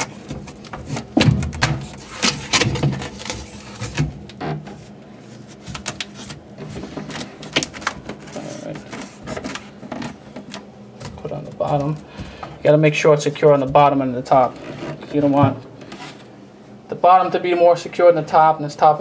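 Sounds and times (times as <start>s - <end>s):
crackling and rustling panel: 0.0s - 16.4s.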